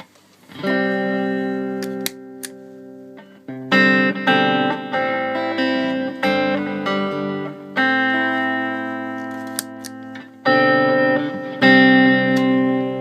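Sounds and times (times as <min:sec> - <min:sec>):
electric guitar chords: 0:00.5 - 0:13.0.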